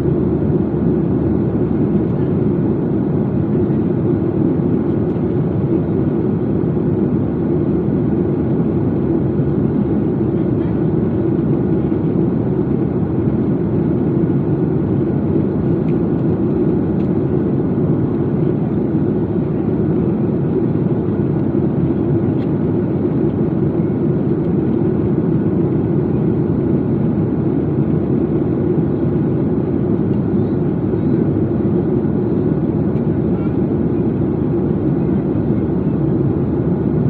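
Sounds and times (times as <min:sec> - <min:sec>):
airliner cabin rumble: 0:00.0 - 0:37.0.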